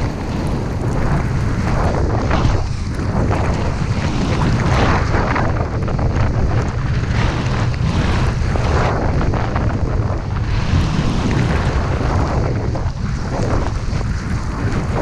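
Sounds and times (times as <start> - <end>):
snowboard sliding through powder: 0.0 - 15.0
wind buffeting microphone: 0.0 - 15.0.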